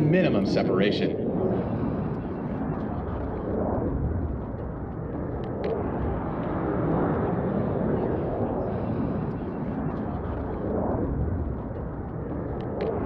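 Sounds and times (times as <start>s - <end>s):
jet engines rumbling overhead: 0.0s - 13.0s.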